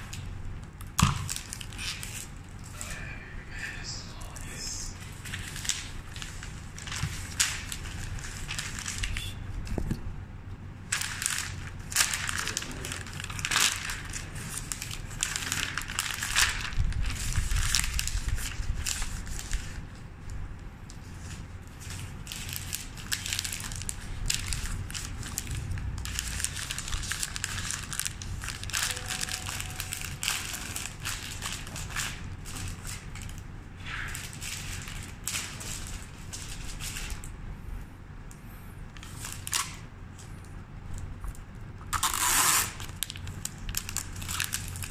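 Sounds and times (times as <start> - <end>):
wrapping paper crackling: 0.0 - 9.7, 10.8 - 37.4, 38.9 - 44.9.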